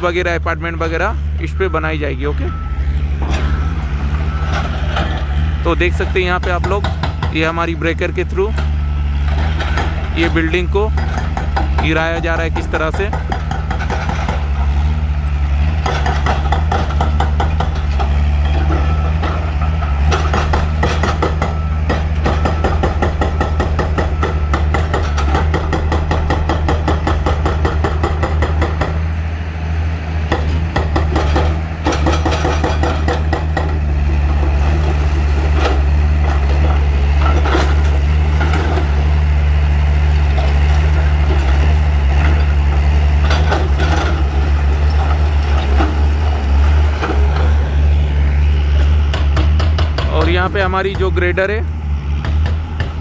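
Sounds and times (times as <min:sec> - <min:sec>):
excavator diesel engine: 0:00.0 - 0:53.0.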